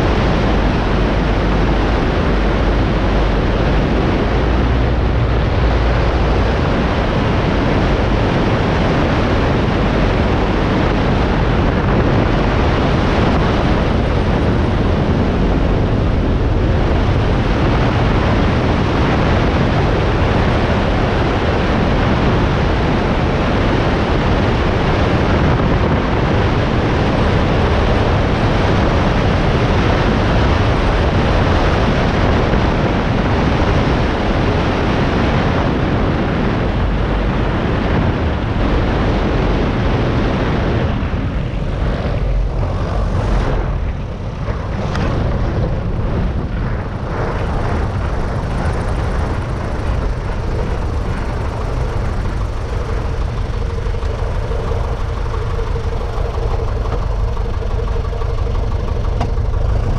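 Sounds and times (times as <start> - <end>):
airplane engine and propeller: 0.0 - 59.9
wind rushing over microphone: 0.0 - 59.9.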